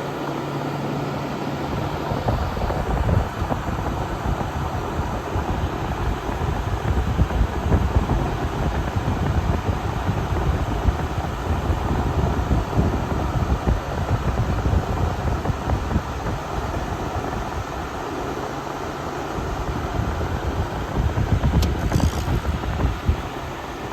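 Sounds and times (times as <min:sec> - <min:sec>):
air conditioner fan blowing: 0:00.0 - 0:23.9
compressor hum: 0:00.0 - 0:23.9
wind buffeting microphone: 0:00.1 - 0:18.1, 0:19.4 - 0:23.9.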